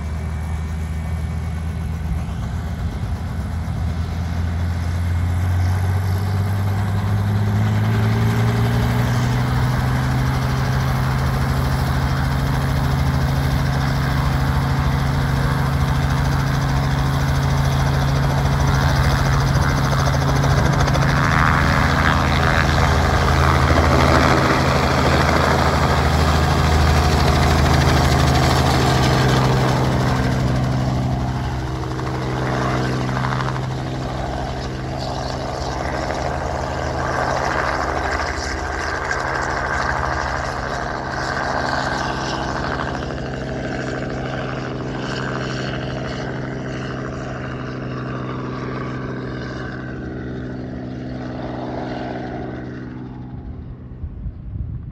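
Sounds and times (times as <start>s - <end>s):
helicopter engine and rotor hum: 0.0s - 54.9s.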